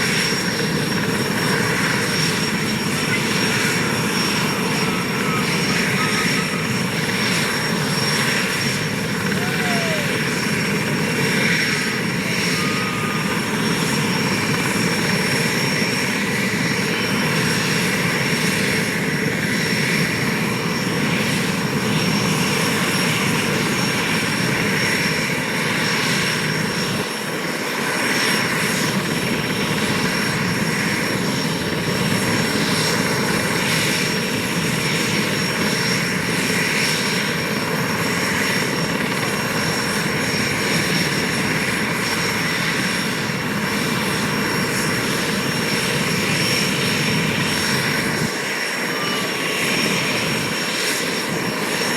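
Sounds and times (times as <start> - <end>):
helicopter rotor and exhaust: 0.0 - 51.9
helicopter turbine whine: 0.0 - 51.9.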